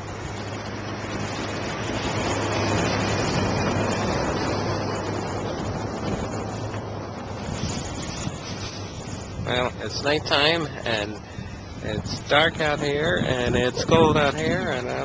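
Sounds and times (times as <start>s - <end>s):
vehicle passing on snowy street: 0.0s - 15.0s.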